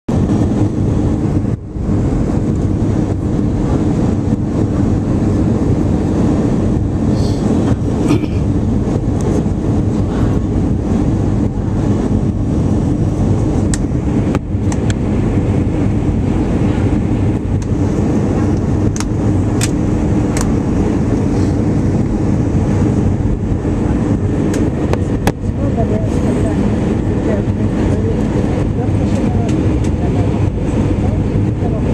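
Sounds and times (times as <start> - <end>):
aircraft engine and airflow noise: 0.1 - 31.9.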